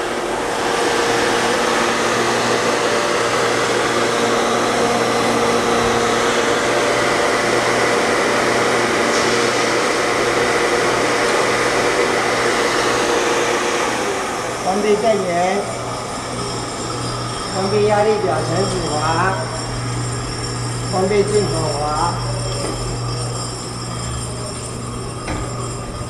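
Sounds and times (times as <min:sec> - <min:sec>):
electric pump motor hum: 0:00.0 - 0:26.0
fan rush: 0:00.0 - 0:26.0.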